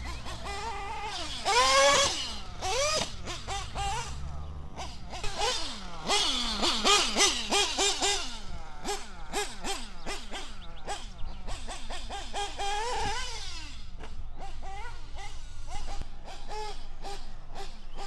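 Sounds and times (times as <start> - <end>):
model car engine revving: 0.0 - 18.0.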